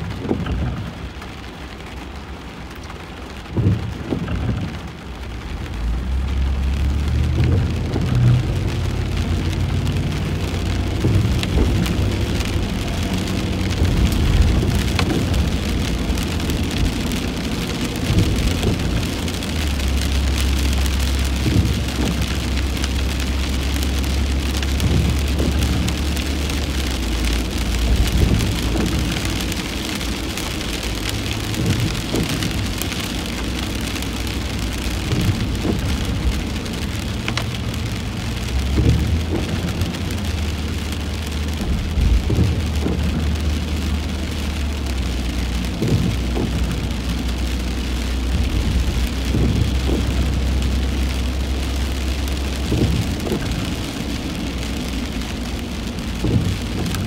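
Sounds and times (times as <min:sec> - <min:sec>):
engine and road hum: 0:00.0 - 0:57.0
rain on car roof: 0:00.0 - 0:57.0.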